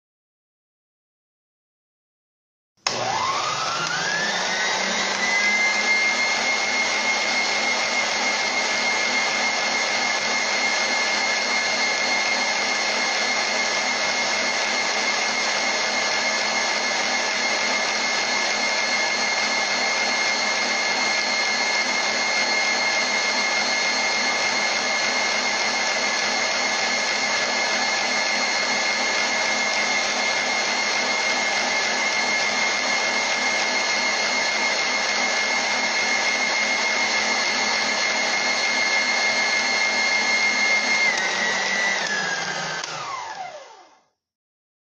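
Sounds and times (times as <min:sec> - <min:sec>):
electric mixer motor whine: 0:02.8 - 0:44.2.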